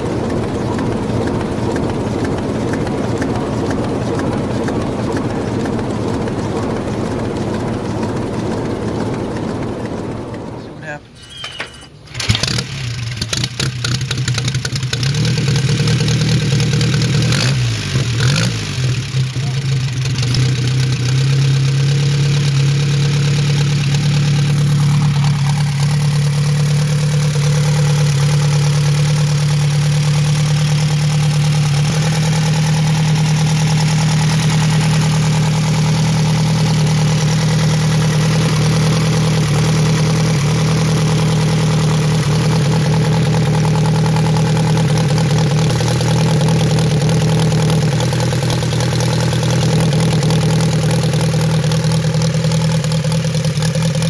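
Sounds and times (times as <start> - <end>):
large engine starting and idling: 0.0 - 54.0.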